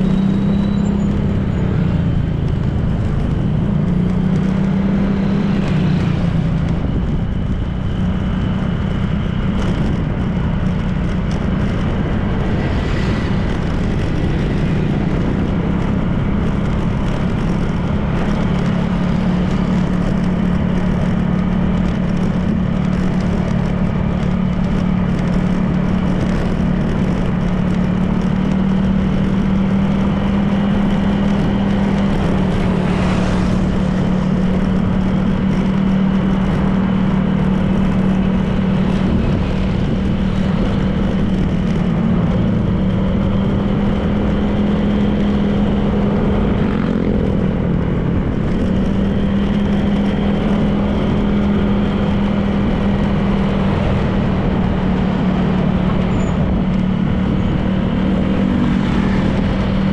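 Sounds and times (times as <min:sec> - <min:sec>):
scooter engine cruising: 0:00.0 - 0:59.9
wind and road noise: 0:00.0 - 0:59.9.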